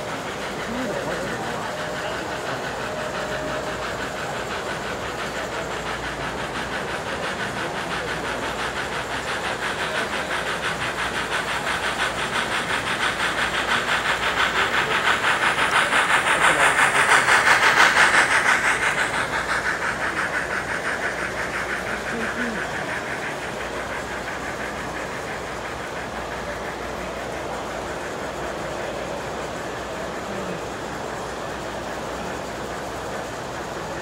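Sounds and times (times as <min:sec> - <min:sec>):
model steam train running: 0:00.0 - 0:34.0.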